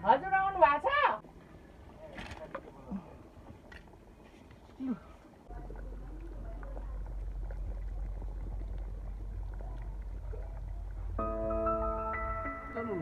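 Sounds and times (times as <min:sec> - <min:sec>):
stew boiling hard: 0:00.0 - 0:13.0.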